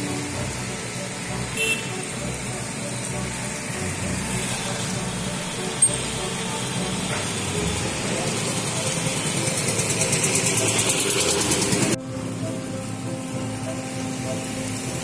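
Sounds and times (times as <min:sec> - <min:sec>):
traffic noise: 0:00.0 - 0:15.0
fast even pulsing: 0:02.2 - 0:15.0.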